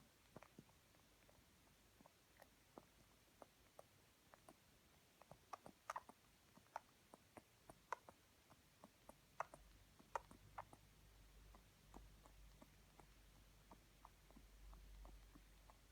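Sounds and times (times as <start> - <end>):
puppy snoring softly: 0.0 - 15.9.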